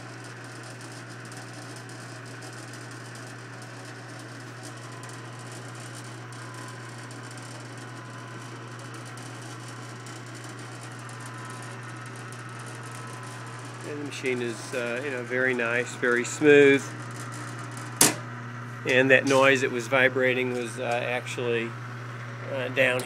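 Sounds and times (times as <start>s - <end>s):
metal lathe humming and whirring: 0.0s - 23.0s.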